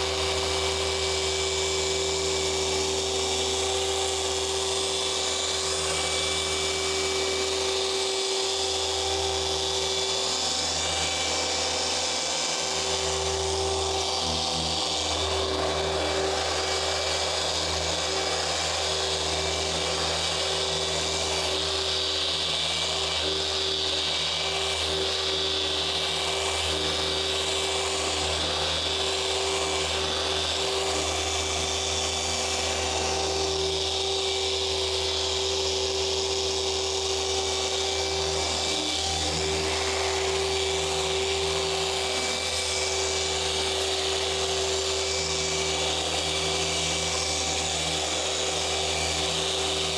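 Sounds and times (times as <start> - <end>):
car polisher whirring: 0.0 - 49.9.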